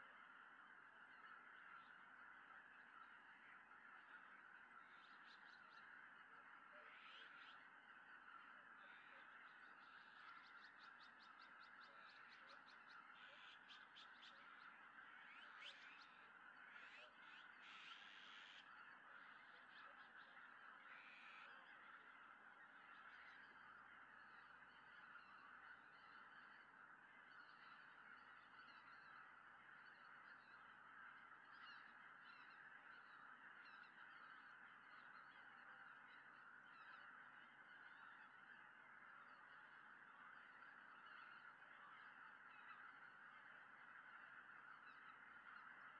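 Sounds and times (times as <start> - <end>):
distant geese flock calling: 0.0 - 45.9.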